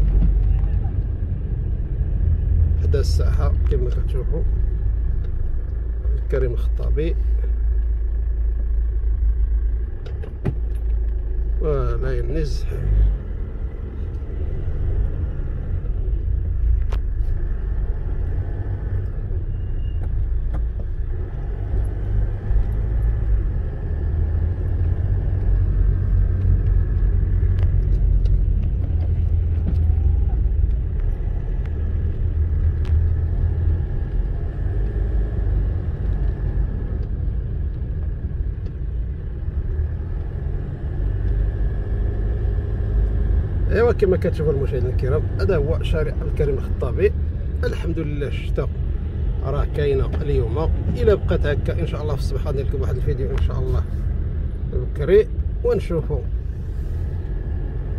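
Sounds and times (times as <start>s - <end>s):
car engine and tyres rumbling: 0.0s - 57.9s.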